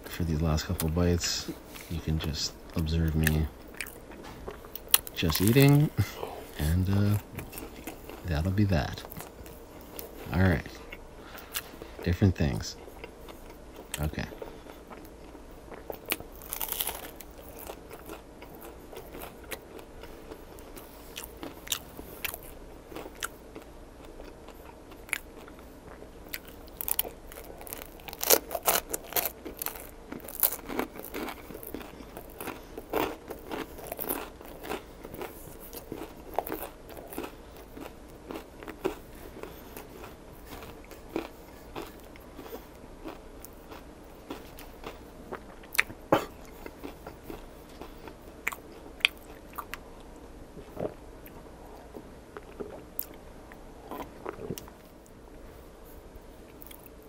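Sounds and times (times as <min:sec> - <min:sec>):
crisp crunching of toasted bread: 0:00.4 - 0:49.8
person chewing: 0:02.7 - 0:12.0, 0:12.8 - 0:54.9, 0:56.5 - 0:57.0.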